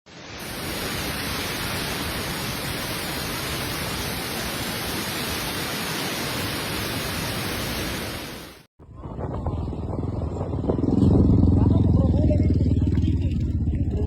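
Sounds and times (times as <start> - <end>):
steady rushing noise: 0.1 - 11.7.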